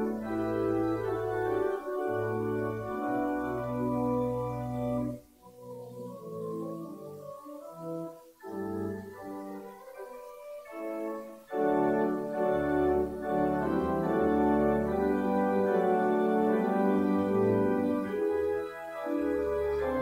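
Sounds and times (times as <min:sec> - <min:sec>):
organ playing slow chords: 0:00.0 - 0:20.0.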